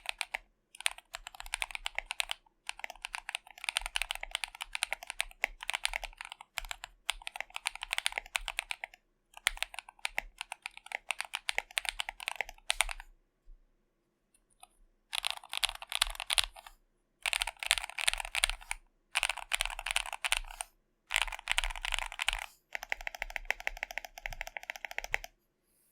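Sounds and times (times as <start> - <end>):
fast typing on mechanical keyboard: 0.0 - 13.0, 15.1 - 25.3.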